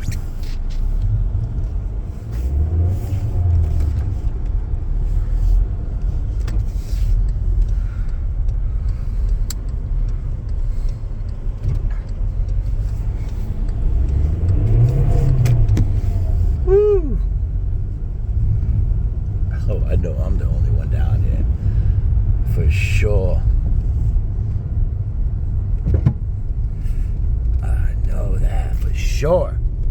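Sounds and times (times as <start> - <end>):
car engine: 0.0 - 29.9
road rumble: 0.0 - 29.9.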